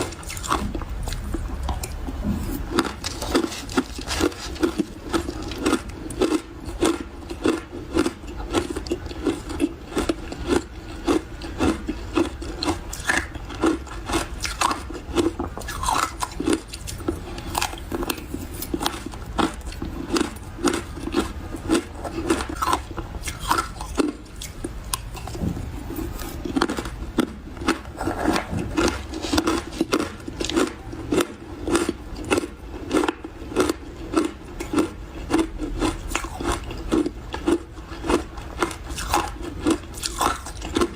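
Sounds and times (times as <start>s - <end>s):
chewing ice crunches: 0.0s - 40.9s.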